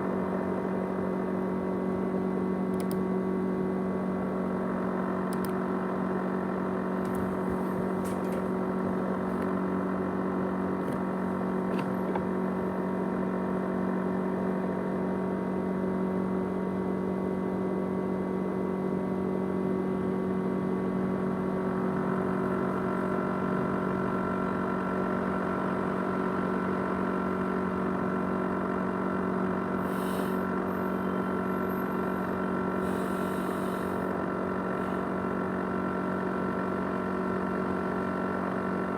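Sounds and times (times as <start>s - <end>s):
laptop and hard drive whirring hum: 0.0s - 38.9s.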